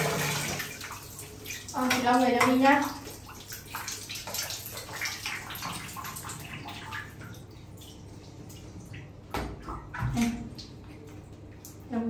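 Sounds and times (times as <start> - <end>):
water splashing in shower: 0.0 - 12.0.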